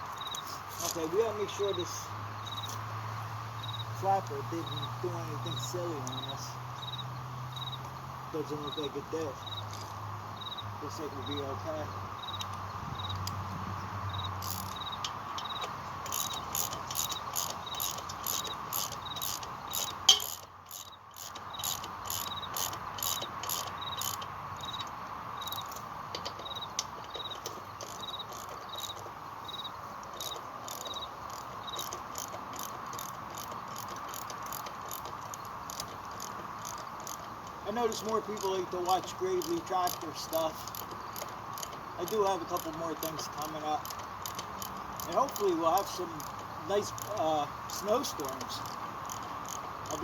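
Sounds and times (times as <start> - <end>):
cricket chirping: 0.0 - 13.3, 14.0 - 37.3, 38.0 - 50.0.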